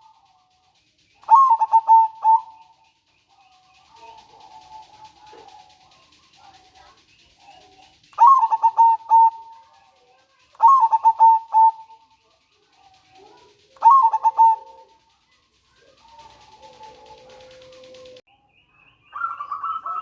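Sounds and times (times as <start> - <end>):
dove cooing: 1.2 - 18.2.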